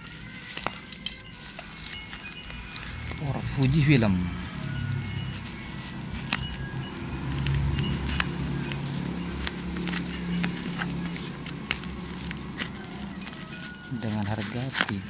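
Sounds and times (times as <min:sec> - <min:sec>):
plastic bag crinkling: 0:00.0 - 0:15.0
low hum: 0:01.2 - 0:13.7.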